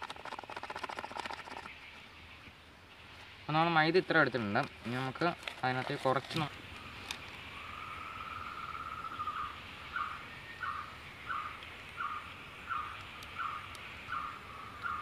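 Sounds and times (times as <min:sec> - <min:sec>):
steady high hiss: 0:01.8 - 0:05.2, 0:06.1 - 0:15.0.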